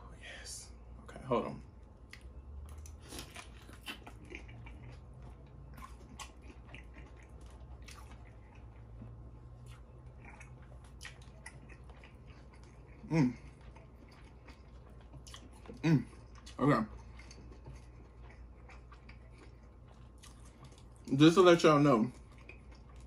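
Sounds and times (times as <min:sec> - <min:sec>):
person chewing: 0:01.8 - 0:23.0.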